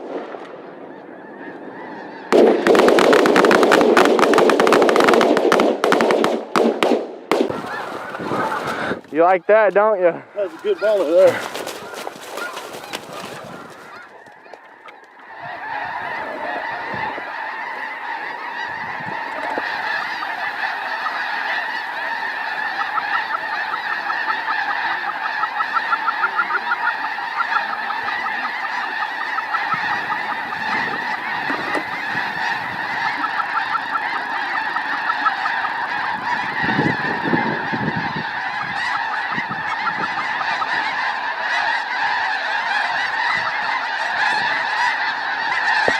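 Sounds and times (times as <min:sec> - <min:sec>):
geese honking: 0:00.8 - 0:45.9.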